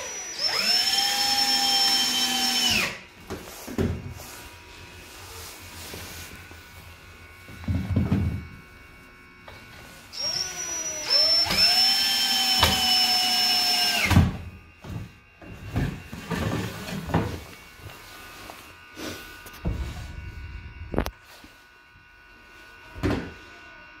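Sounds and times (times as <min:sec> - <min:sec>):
drill motor whine: 0:00.0 - 0:21.4.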